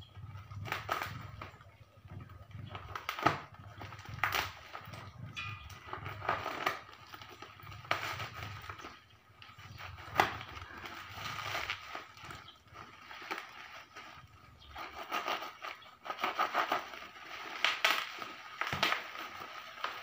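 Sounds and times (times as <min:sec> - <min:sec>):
plastic wrapping crinkling and tearing: 0:00.2 - 0:20.0.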